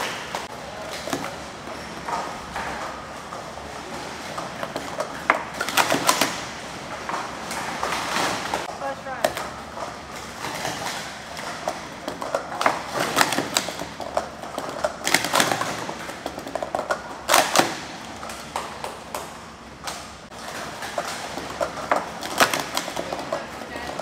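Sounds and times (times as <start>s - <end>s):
plastic cups clacking: 0.0s - 24.0s.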